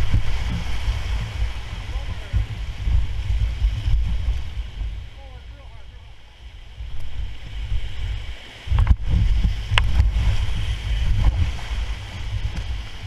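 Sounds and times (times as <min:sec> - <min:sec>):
low rumble buffeting microphone: 0:00.0 - 0:13.0
whitewater rapids rushing: 0:00.0 - 0:13.0.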